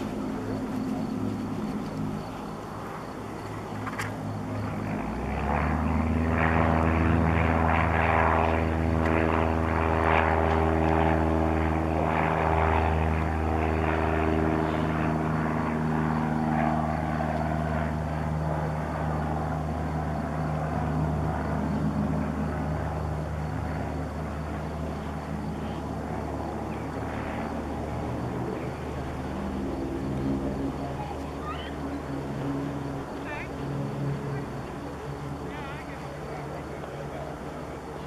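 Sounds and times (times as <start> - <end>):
propeller aircraft engines droning: 0.0 - 38.0.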